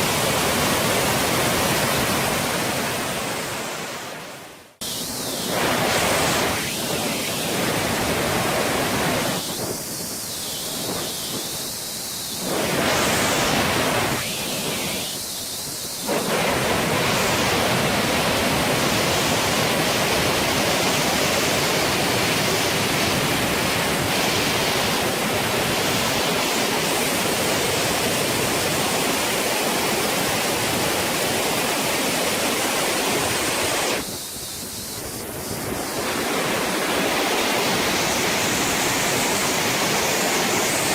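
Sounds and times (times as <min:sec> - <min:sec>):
waterfall roaring: 0:00.0 - 0:09.6, 0:16.1 - 0:34.1, 0:35.0 - 0:40.9.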